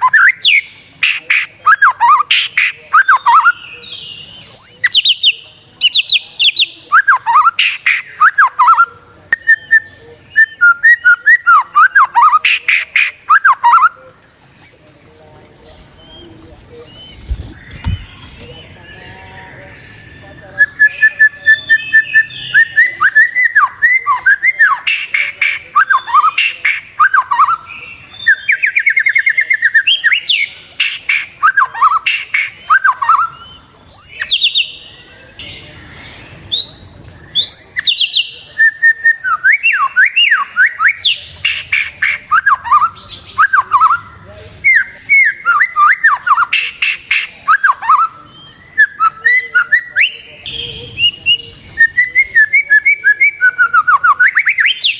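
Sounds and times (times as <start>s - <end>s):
bird singing whistled trills: 0.0s - 15.1s, 15.8s - 54.9s.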